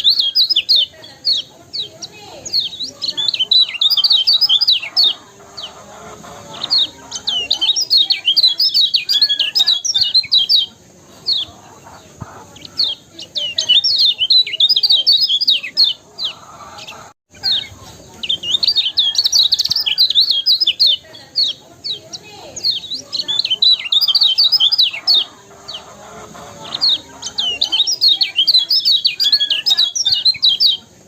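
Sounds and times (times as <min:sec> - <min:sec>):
songbird chirping song: 0:00.0 - 0:31.0.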